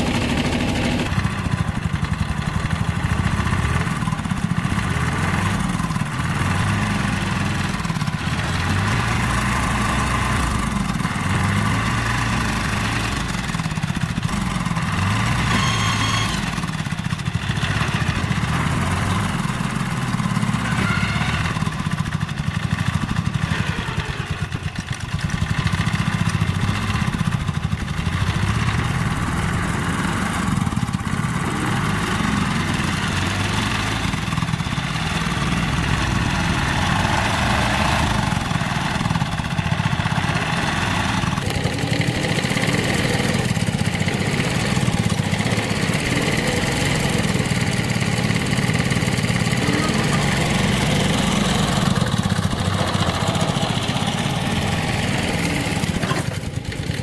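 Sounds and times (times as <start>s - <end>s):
small engine idling: 0.0s - 57.0s.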